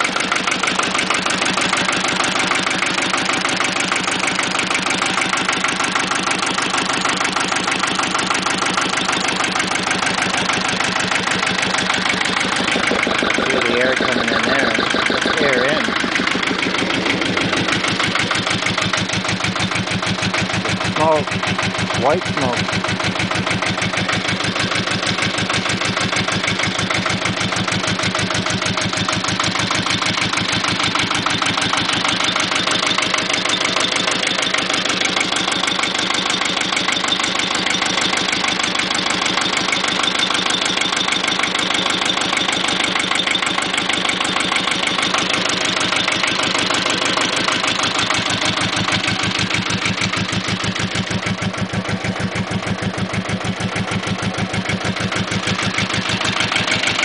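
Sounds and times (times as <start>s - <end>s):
tractor engine idling with clatter: 0.0s - 57.0s.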